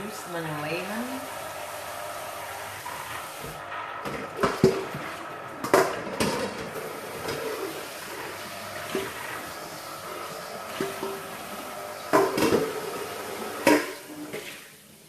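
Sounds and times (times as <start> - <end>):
water running in a sink: 0.0 - 15.0.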